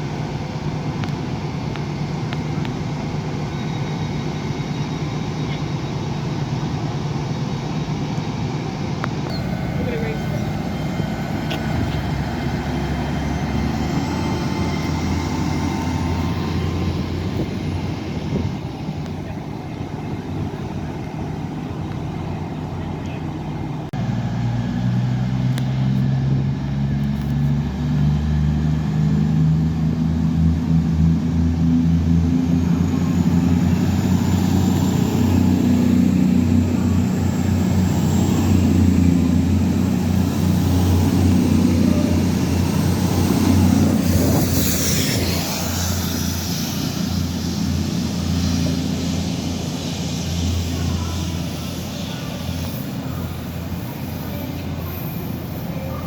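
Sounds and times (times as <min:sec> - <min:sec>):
diesel train engine droning: 0:00.0 - 0:56.0.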